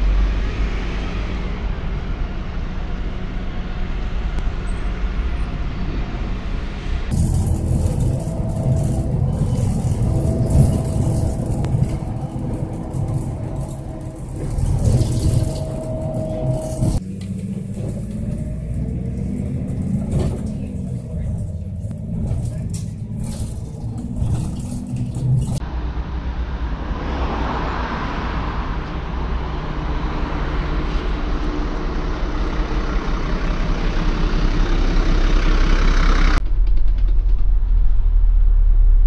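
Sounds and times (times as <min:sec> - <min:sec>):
bus engine and road rumble: 0:00.0 - 0:39.0
faint engine whine: 0:00.0 - 0:39.0.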